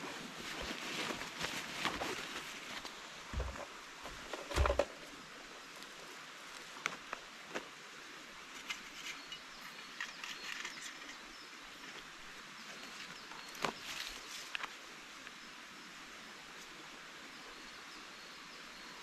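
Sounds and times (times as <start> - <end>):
insect hiss: 0.0 - 19.0.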